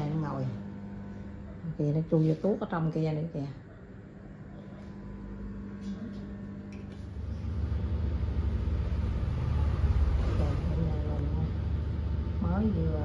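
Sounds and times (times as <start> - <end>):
low mechanical rumble: 0.0 - 13.0
low steady hum: 0.0 - 13.0.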